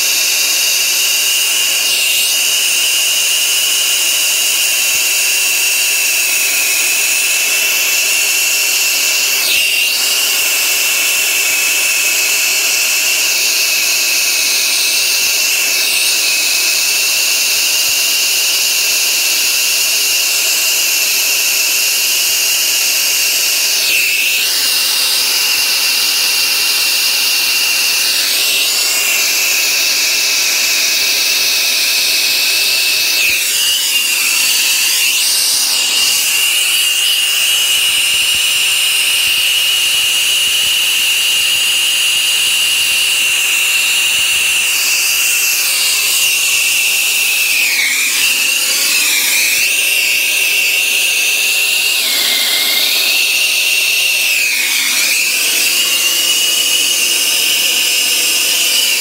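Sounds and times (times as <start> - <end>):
high whistle: 0.0 - 59.0.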